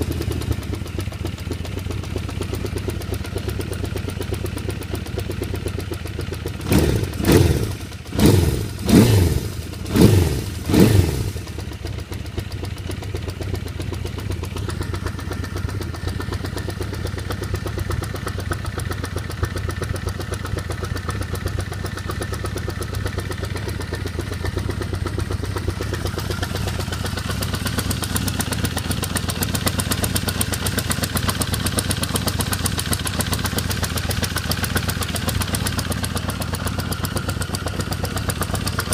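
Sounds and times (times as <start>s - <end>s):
engine ticking: 0.0s - 38.9s
motorcycle engine idling: 0.0s - 38.9s
motorcycle throttle revving: 0.0s - 38.9s.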